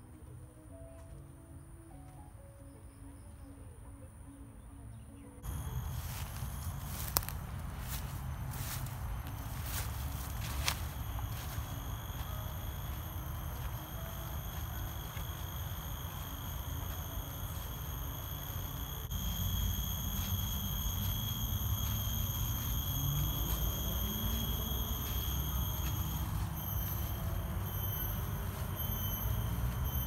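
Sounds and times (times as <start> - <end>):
insects droning: 0.1 - 30.0
footsteps on dirt trail: 5.4 - 30.0.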